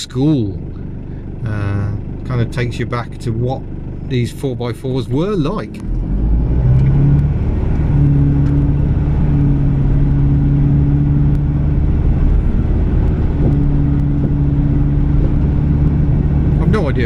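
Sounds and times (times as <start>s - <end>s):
vehicle engine accelerating: 0.7s - 17.0s.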